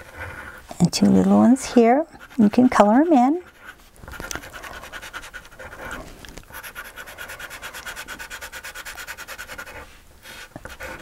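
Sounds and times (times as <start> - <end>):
chalk scratching on paper: 1.8 - 11.0.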